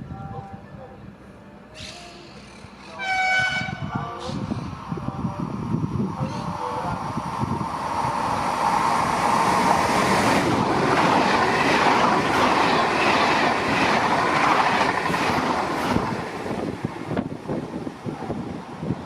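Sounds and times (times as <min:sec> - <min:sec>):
train passing on rails: 0:00.0 - 0:19.0.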